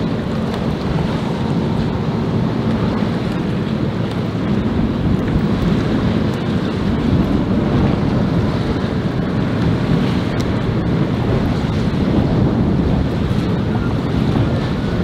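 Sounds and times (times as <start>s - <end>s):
choppy water washing: 0.0s - 15.0s
wind buffeting microphone: 0.0s - 15.0s.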